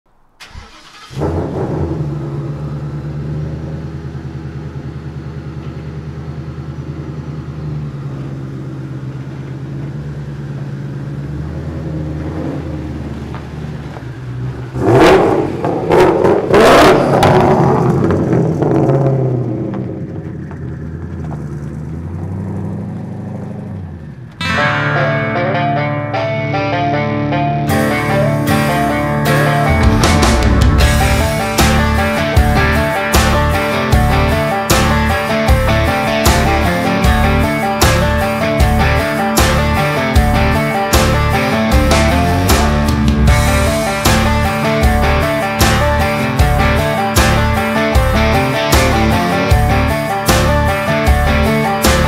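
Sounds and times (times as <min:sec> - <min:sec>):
truck engine idling and revving: 0:00.1 - 0:24.8, 0:25.6 - 0:52.0.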